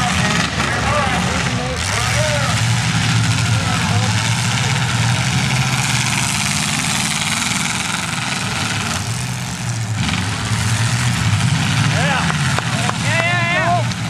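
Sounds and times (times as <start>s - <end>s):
car engines running loud: 0.0s - 14.0s.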